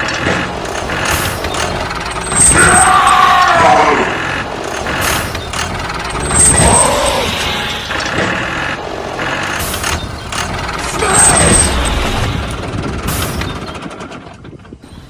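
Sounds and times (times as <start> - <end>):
loud machine running: 0.0 - 15.0.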